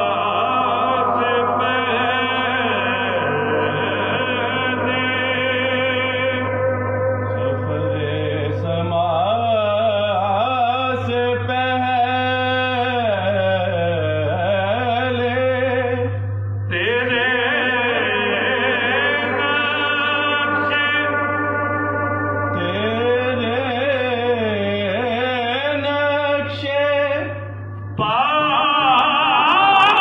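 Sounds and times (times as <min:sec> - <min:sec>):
man singing unaccompanied: 0:00.0 - 0:06.6, 0:07.4 - 0:16.1, 0:16.7 - 0:21.5, 0:22.5 - 0:27.4, 0:28.0 - 0:30.0
steady low hum: 0:00.0 - 0:30.0.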